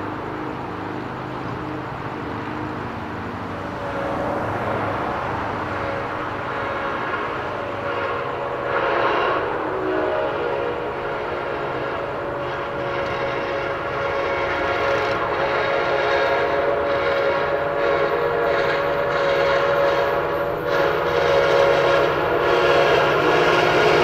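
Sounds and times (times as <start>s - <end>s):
train air horn blast: 3.8s - 24.0s.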